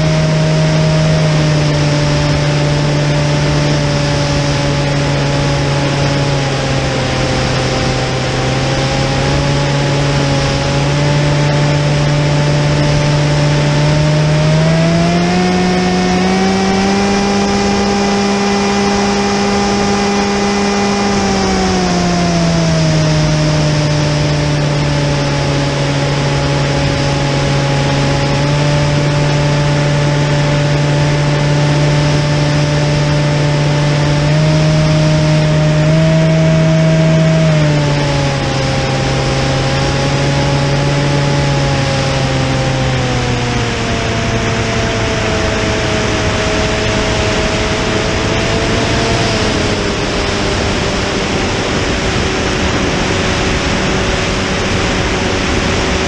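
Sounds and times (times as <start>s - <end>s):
model aircraft motor and propeller: 0.0s - 56.0s
wind rush: 0.0s - 56.0s.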